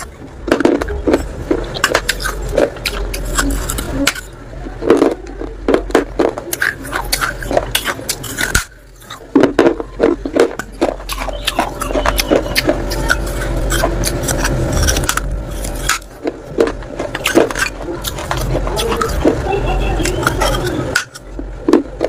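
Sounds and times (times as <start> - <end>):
person biting and crunching clay: 0.0 - 22.0.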